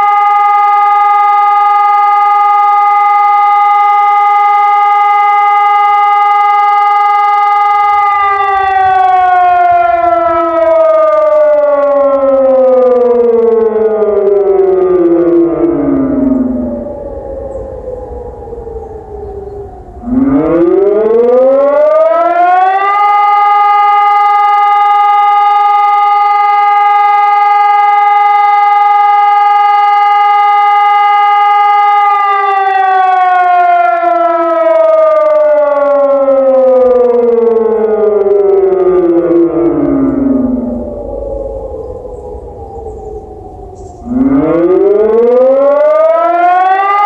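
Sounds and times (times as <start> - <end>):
civil defence siren wailing: 0.0 - 47.0.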